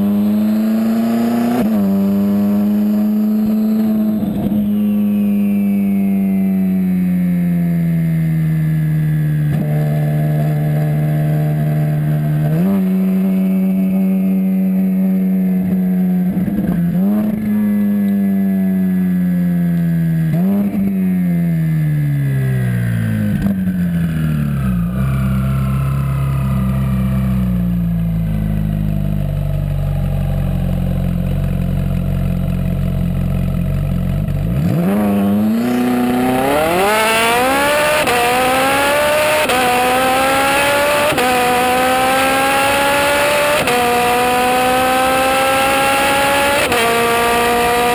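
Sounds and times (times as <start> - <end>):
sports car engine revving: 0.0 - 47.9.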